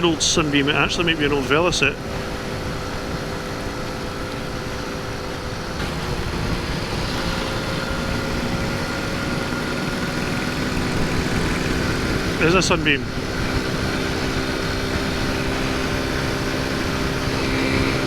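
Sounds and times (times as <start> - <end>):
motorcycle engine running: 0.0 - 18.0
wind rumbling on microphone: 0.0 - 18.0.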